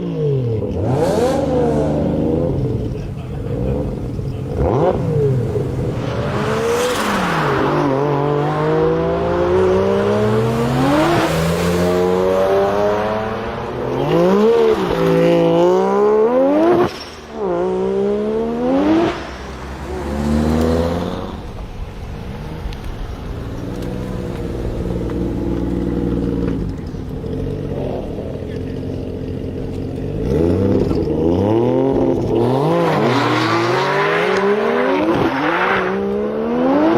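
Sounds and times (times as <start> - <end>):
rotary engine revving: 0.6 - 36.9.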